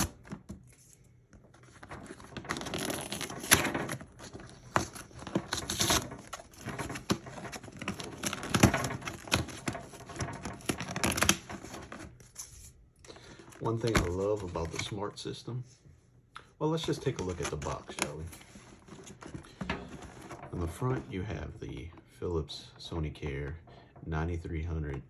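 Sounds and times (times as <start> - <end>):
plastic packaging rustling: 0.0 - 15.2, 16.7 - 22.0.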